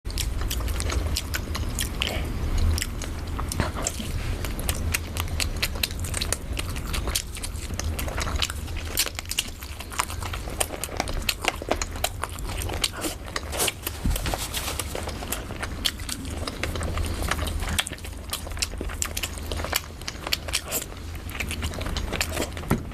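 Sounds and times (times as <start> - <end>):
chewing and biting: 0.0 - 22.9
low hum: 0.1 - 22.9.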